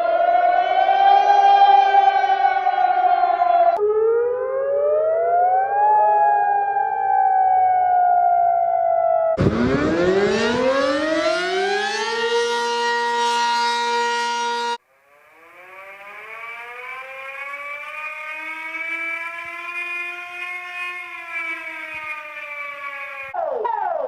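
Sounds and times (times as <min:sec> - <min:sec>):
civil defense siren winding up: 0:00.0 - 0:23.4.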